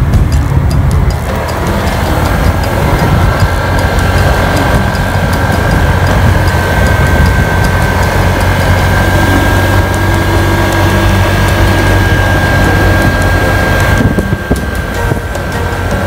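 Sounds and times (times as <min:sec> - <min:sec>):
high whine: 0:00.0 - 0:16.0
road rumble: 0:00.0 - 0:16.0
vehicle engine drone: 0:00.0 - 0:16.0.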